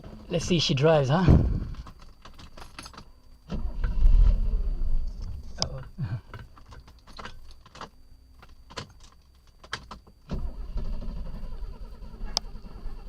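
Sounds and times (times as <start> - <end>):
car engine cranking: 0.0 - 13.0.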